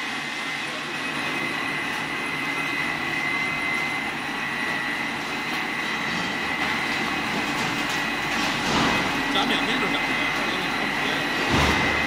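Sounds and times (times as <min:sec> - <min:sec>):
high-pitched whine: 0:00.0 - 0:12.0
production line machinery running: 0:00.0 - 0:12.0.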